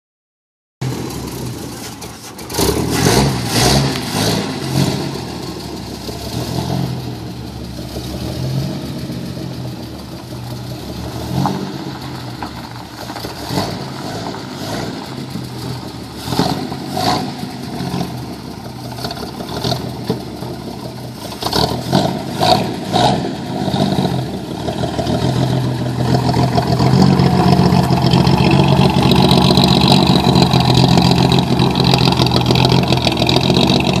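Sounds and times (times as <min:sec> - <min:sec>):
pickup truck engine running: 0:04.0 - 0:34.0.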